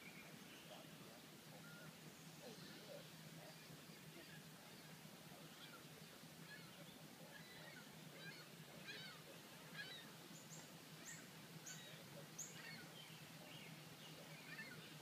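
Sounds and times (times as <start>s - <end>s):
birds chirping: 0.0s - 15.0s
faint low hum: 0.0s - 15.0s.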